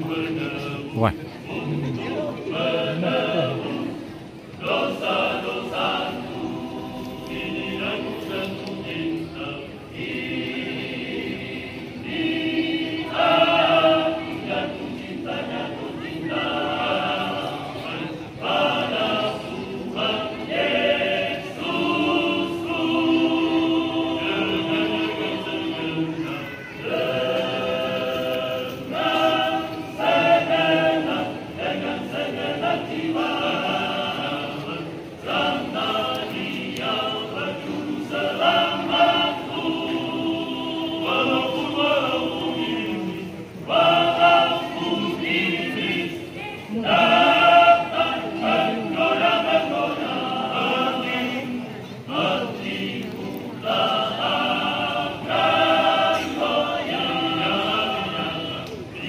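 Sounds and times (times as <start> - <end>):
choir singing a hymn unaccompanied: 0.0 - 59.0.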